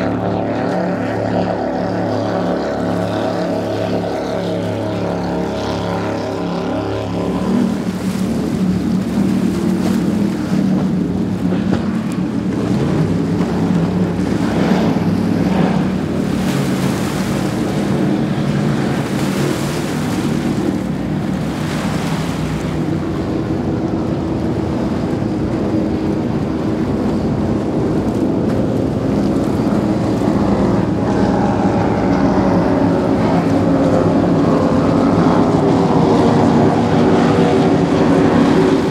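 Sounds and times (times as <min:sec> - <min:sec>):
powerboat engines droning: 0:00.0 - 0:38.9
rush of water and spray: 0:00.0 - 0:38.9.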